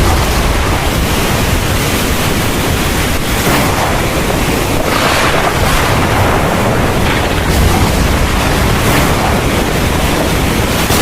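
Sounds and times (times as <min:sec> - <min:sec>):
heavy rain falling: 0:00.0 - 0:11.0
low rumble of thunder: 0:00.0 - 0:11.0.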